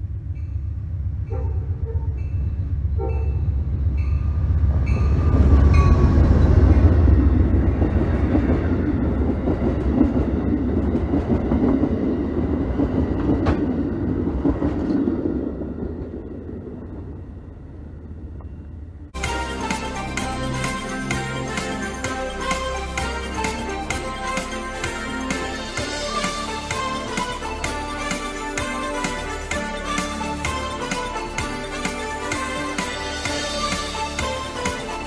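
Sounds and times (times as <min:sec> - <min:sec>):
passenger train passing: 0:00.0 - 0:35.0.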